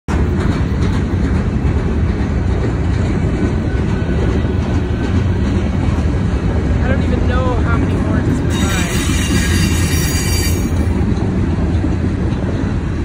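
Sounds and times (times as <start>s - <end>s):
steel wheels rumbling on rails: 0.1s - 13.0s.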